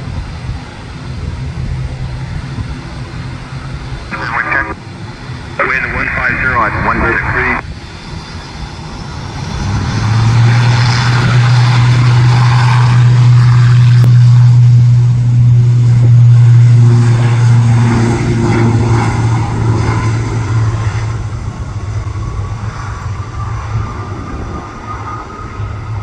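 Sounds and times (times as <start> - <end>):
aircraft engines passing: 0.0 - 26.0.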